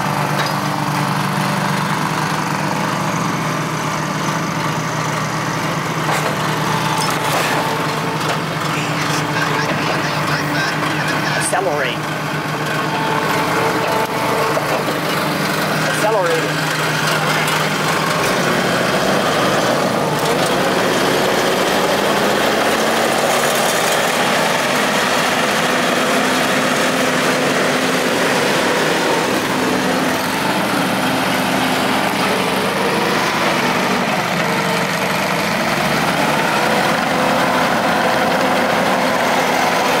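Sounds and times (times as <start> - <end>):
track loader diesel engine: 0.0 - 40.0.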